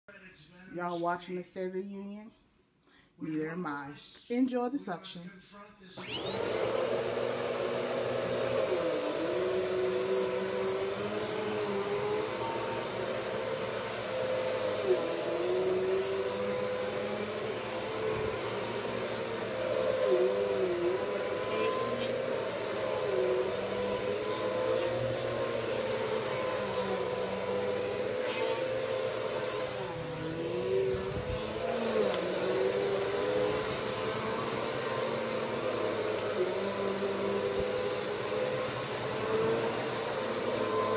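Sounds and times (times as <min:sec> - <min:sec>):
vacuum cleaner running: 0:06.0 - 0:40.9.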